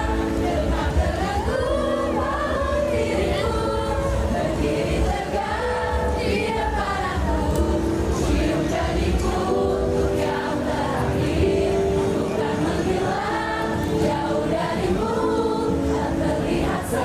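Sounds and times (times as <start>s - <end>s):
crowd singing along: 0.0s - 17.0s.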